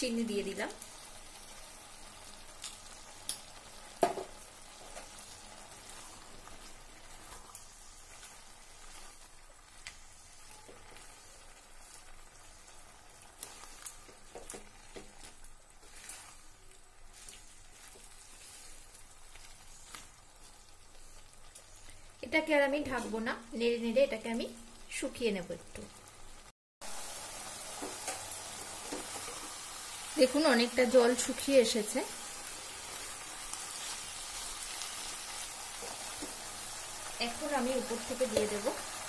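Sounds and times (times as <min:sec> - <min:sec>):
vegetables sizzling in a pan: 0:00.0 - 0:39.0.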